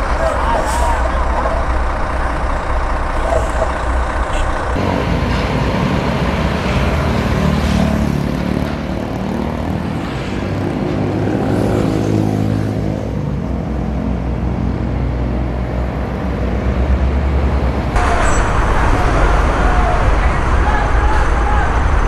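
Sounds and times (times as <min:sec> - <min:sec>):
heavy truck diesel engine droning: 0:00.0 - 0:22.0.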